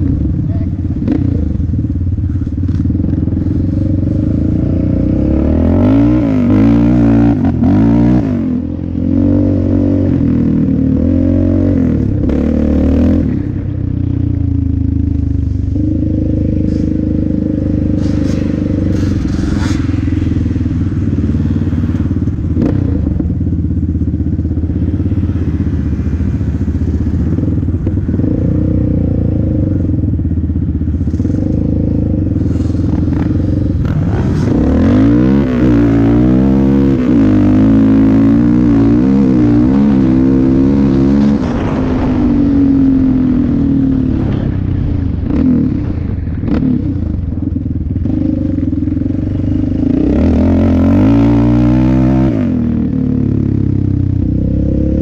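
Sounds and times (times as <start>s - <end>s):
atv engine revving: 0.0s - 23.9s, 26.8s - 55.0s.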